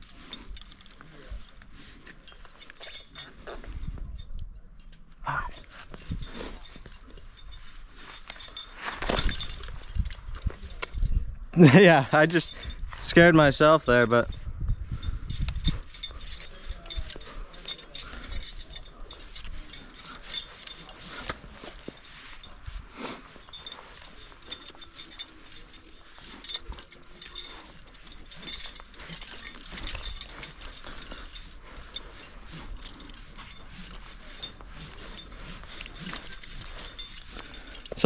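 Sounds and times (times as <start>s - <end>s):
climbing hardware clinking: 0.0s - 38.0s
rope and gear clicks: 0.0s - 38.0s.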